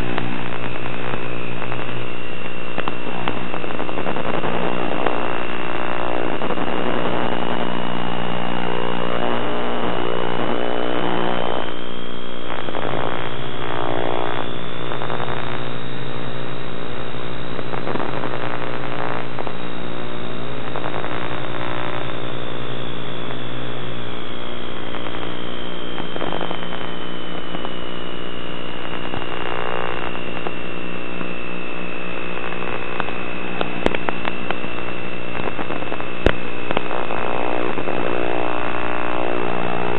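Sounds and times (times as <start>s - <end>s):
electrical hum and buzz: 0.0s - 39.9s.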